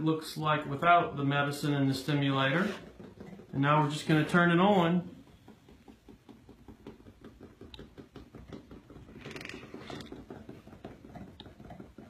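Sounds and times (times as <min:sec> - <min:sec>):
fast rattling of shaking chair: 0:01.5 - 0:12.0.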